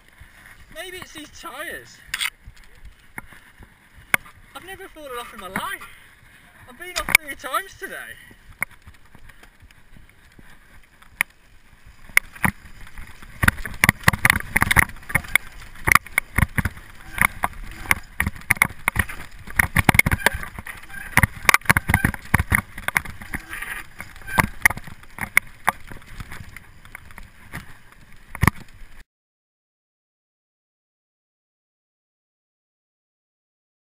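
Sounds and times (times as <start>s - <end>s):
bike frame rattling and clicking: 0.0s - 29.0s
tyres rumbling on dirt: 0.0s - 29.0s.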